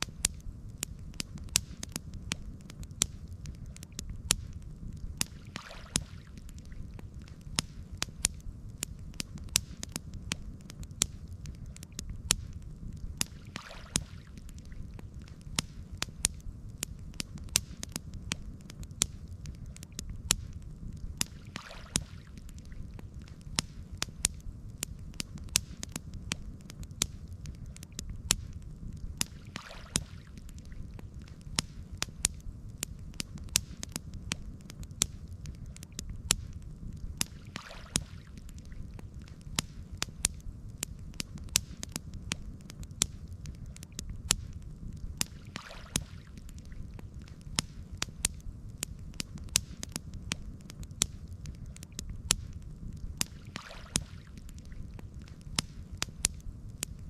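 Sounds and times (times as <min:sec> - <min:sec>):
burning wood popping: 0:00.0 - 0:57.0
campfire crackling: 0:00.0 - 0:57.0
soft hissing: 0:00.0 - 0:57.0.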